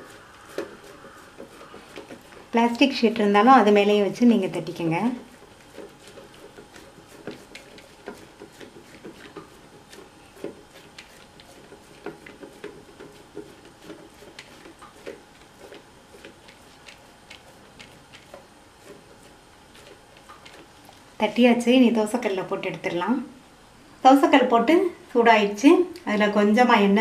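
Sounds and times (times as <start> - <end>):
fingers patting dough: 0.0 - 21.8.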